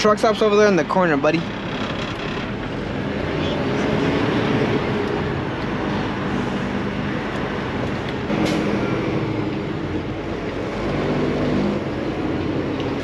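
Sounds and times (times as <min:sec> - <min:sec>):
truck engine from inside cab: 0:00.0 - 0:13.0.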